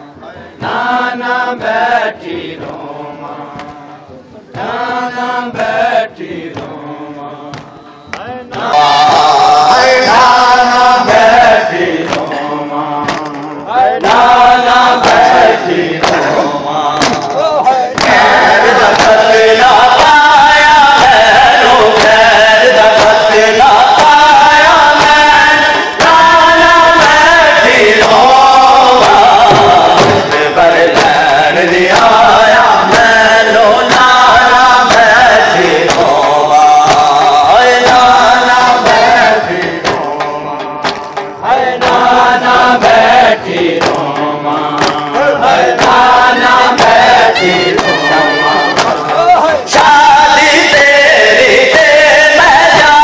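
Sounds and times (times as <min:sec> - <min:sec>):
rhythmic chest-beating slaps: 0:00.0 - 0:53.0
man singing lament over loudspeaker: 0:06.7 - 0:40.9, 0:42.1 - 0:53.0.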